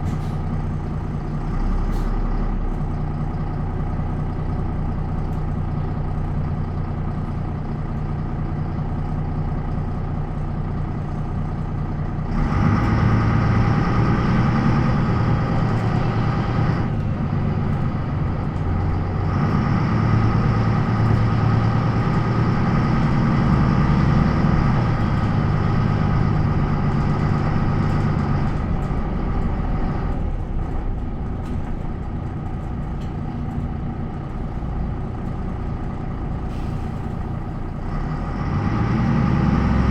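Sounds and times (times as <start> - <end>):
bus diesel engine: 0.0 - 39.9.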